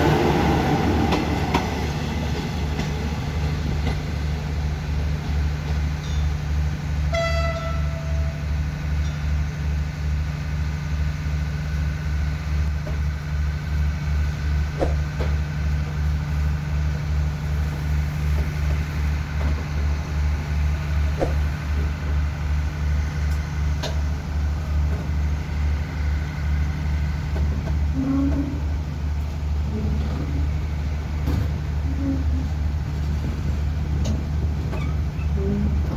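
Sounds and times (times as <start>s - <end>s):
diesel train engine idling: 0.0s - 35.9s.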